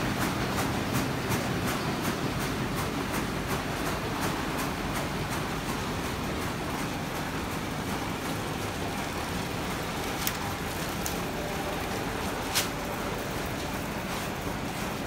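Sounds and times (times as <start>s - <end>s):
printing press clattering: 0.0s - 15.0s.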